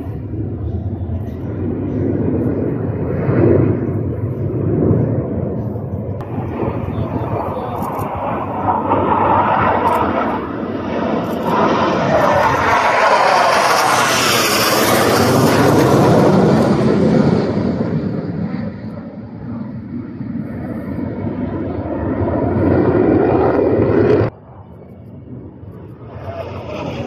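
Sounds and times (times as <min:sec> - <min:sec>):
jets passing overhead: 0:00.0 - 0:27.0.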